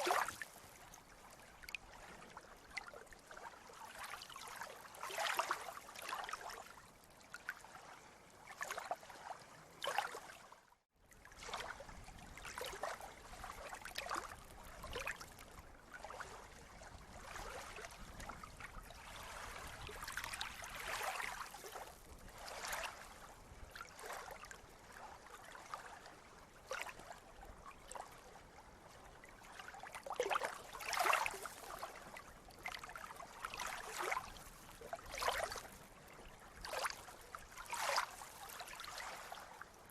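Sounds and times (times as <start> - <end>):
sea water lapping and splashing: 0.0 - 39.9.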